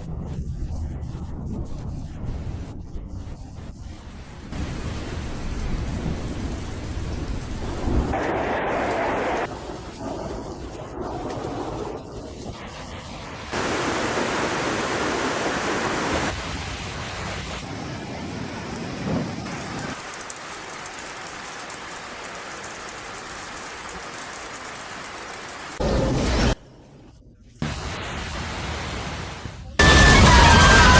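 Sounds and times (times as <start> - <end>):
heavy rain pouring: 0.0 - 25.8, 27.6 - 30.9.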